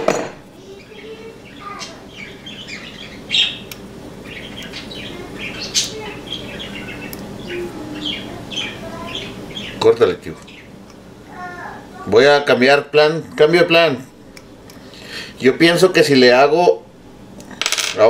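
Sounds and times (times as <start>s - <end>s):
birds chirping: 0.5s - 16.6s.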